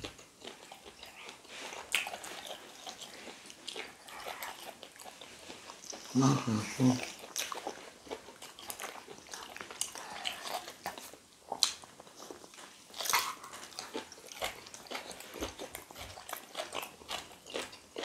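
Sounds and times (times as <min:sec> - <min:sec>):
chewing and lip smacking: 0:00.0 - 0:18.0.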